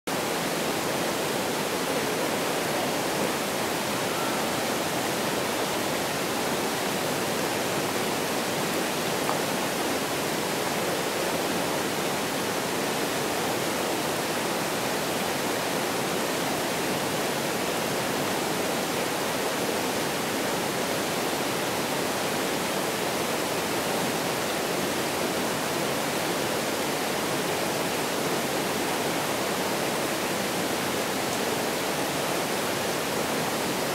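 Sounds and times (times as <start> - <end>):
mountain stream rushing: 0.1 - 33.9.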